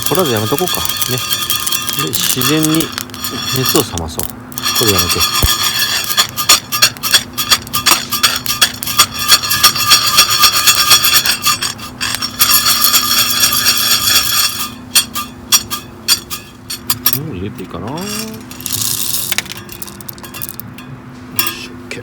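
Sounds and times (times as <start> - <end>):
coffee beans rattling in metal roaster: 0.0 - 21.7.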